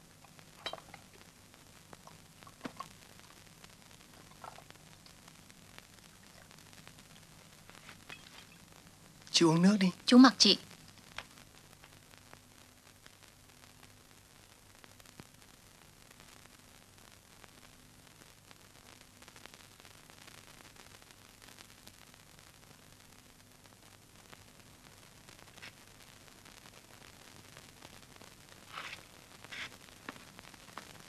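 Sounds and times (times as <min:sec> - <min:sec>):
faint steady hiss: 0:00.0 - 0:31.0.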